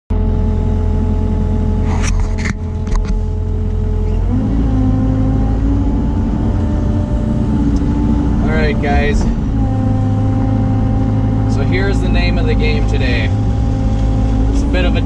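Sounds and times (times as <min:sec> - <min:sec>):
diesel engine running: 0:00.1 - 0:15.0
hydraulic whine: 0:00.1 - 0:15.0.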